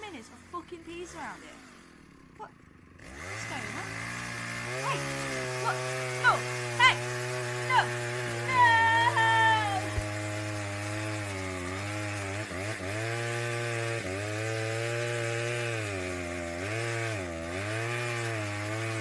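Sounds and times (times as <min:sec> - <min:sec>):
chainsaw cutting: 0:00.0 - 0:19.0.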